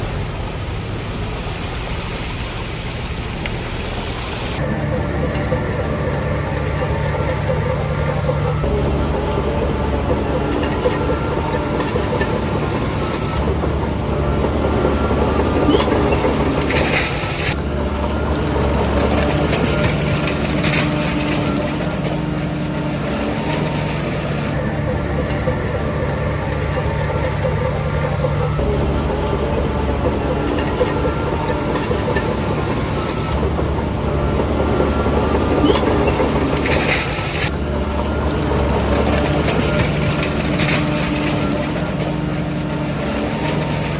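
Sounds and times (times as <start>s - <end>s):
bulldozer diesel engine: 0.0s - 43.9s
metallic track clatter: 0.0s - 43.9s.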